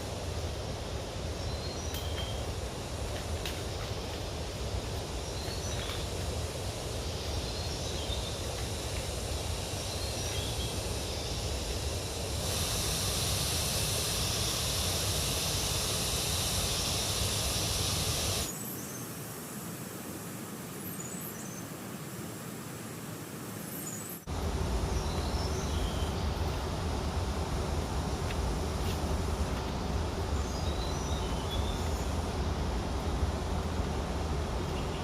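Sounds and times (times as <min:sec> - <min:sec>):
high hiss: 0:00.0 - 0:35.0.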